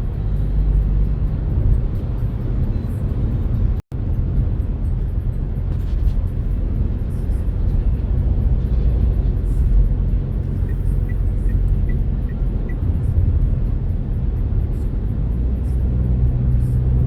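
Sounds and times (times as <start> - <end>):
road and engine noise: 0.0 - 17.0.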